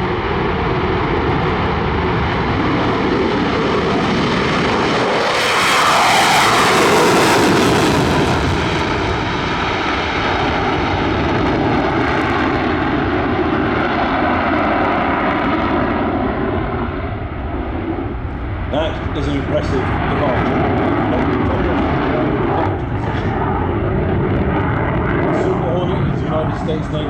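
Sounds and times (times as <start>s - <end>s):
jet roar: 0.0s - 27.0s.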